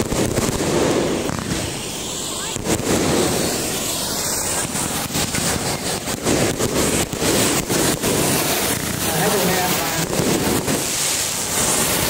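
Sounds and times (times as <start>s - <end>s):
fireworks hissing and crackling: 0.0s - 12.0s.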